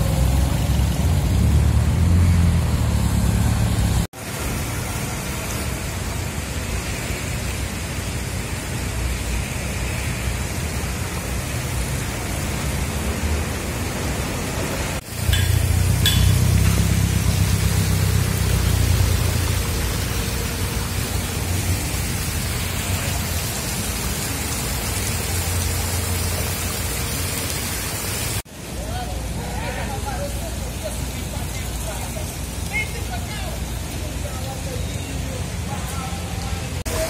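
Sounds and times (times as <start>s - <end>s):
car driving through flooded street: 0.0s - 37.0s
rain hissing on wet street: 0.0s - 37.0s.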